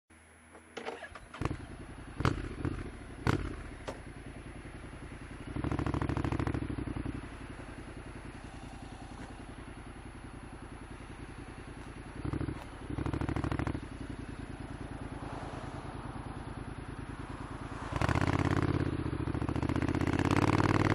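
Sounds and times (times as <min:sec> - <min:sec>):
motorcycle engine running: 0:00.2 - 0:20.9.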